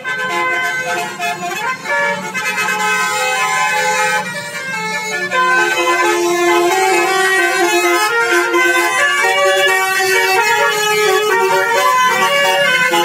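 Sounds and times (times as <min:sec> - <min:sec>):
musical vehicle horn playing a tune: 0:00.0 - 0:13.0.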